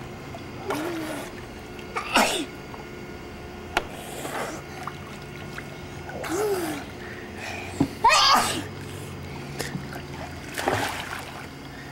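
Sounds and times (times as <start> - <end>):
pool water splashing: 0.0 - 11.9.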